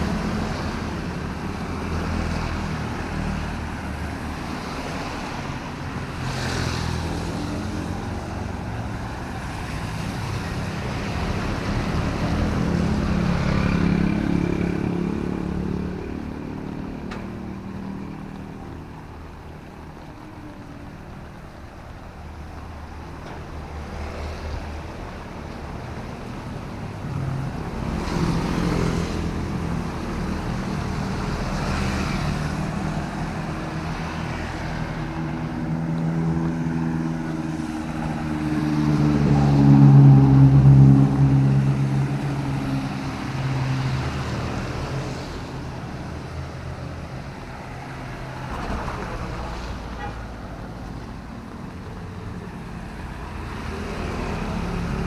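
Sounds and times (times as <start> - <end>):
vehicle engines passing: 0.0 - 55.0.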